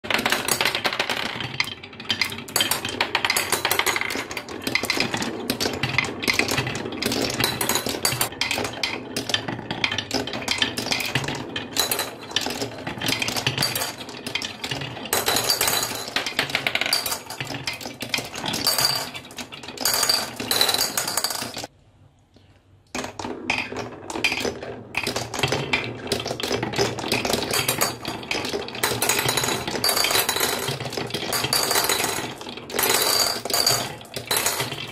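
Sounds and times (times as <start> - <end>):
glass marbles rolling on wooden tracks: 0.1 - 21.7, 23.0 - 34.9
marbles clinking: 0.1 - 21.7, 23.0 - 34.9.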